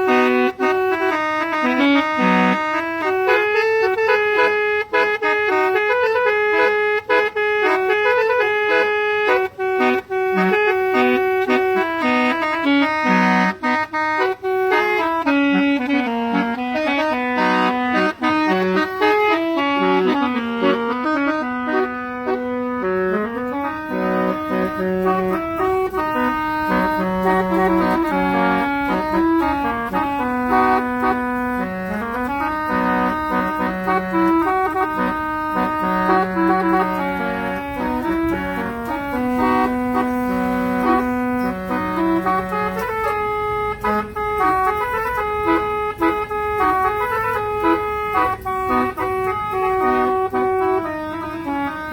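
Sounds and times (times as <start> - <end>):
musical air horns playing melody: 0.0 - 51.9.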